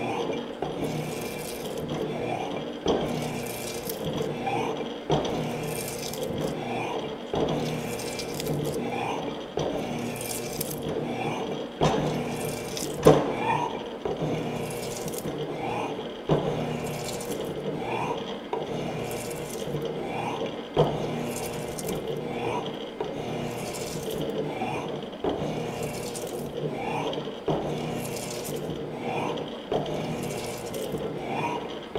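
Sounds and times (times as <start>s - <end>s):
machine hum: 0.0s - 31.9s
shaper ram stroking rhythmically: 0.0s - 31.9s.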